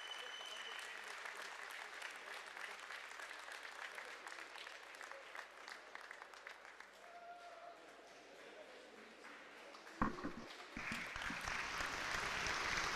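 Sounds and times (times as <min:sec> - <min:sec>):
audience applause: 0:00.0 - 0:12.9.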